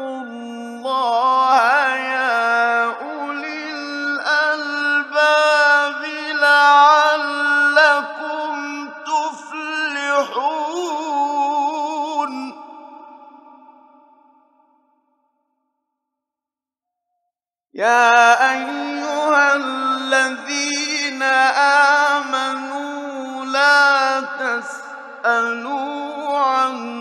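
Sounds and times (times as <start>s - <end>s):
man reciting melodically: 0.0s - 13.7s, 17.8s - 27.0s.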